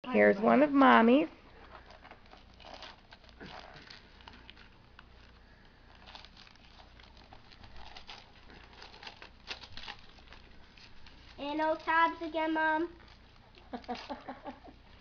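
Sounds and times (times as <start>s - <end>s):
wrapping paper crinkling and tearing: 1.5s - 15.0s.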